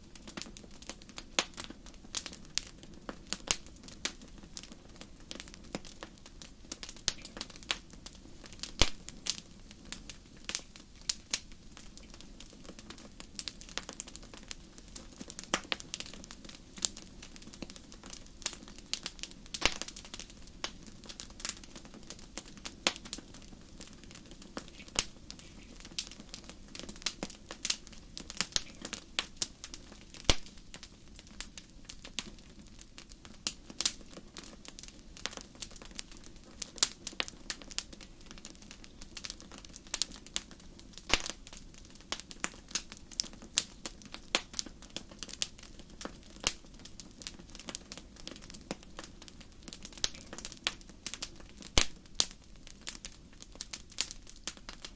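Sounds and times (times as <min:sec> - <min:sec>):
fireplace fire crackling: 0:00.0 - 0:54.9
low rumble of flame: 0:00.0 - 0:54.9.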